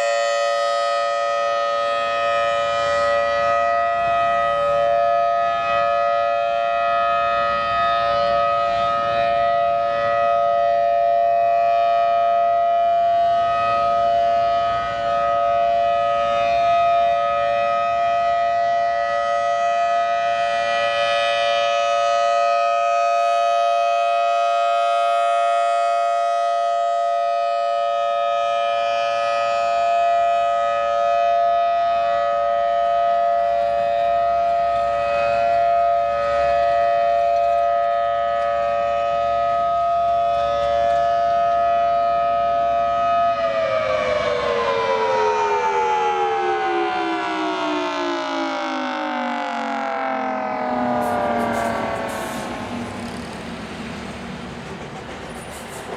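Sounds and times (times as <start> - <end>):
outdoor warning siren: 0.0 - 55.9.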